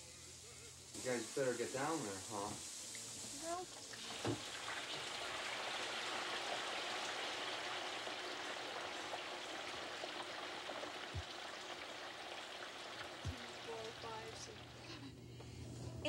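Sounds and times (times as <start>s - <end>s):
oil sizzling in deep fryer: 0.0s - 15.0s.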